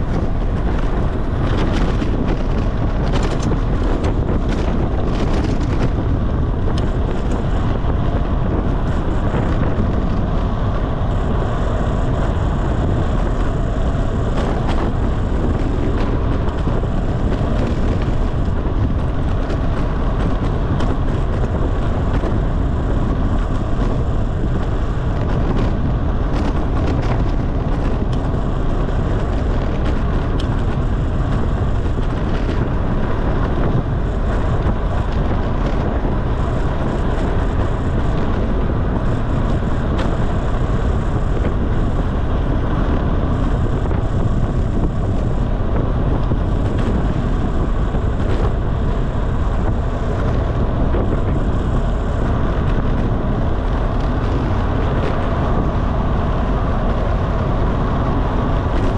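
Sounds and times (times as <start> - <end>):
tyre and road noise: 0.0 - 58.9
wind rushing over microphone: 0.0 - 58.9.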